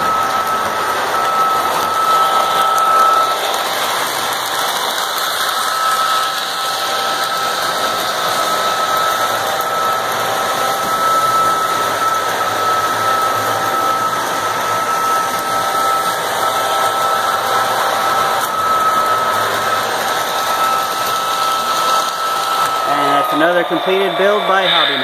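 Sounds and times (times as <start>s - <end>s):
thin high whine: 0.0s - 25.0s
toy train whirring rumble: 0.0s - 25.0s.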